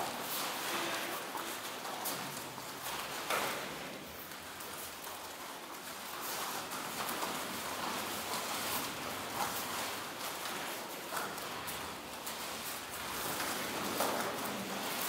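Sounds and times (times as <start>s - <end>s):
uniforms rustling: 0.0s - 15.0s.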